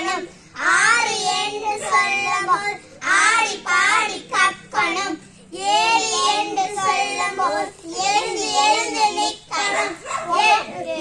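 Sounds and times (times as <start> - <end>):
girls singing: 0.0 - 11.0.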